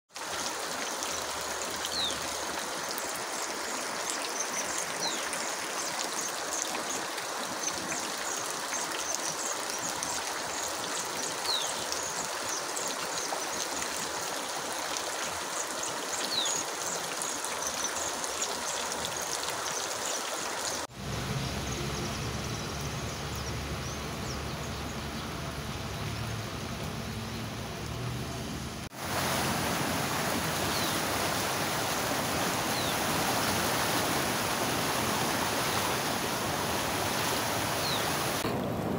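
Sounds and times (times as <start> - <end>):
floodwater rushing: 0.1 - 38.9.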